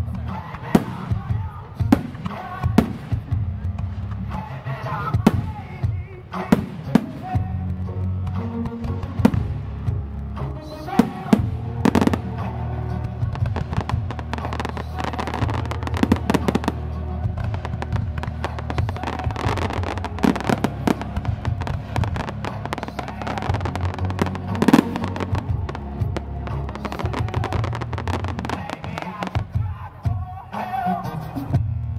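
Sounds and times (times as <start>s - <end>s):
loud music with bass: 0.0s - 31.9s
fireworks bangs and crackles: 0.2s - 30.3s.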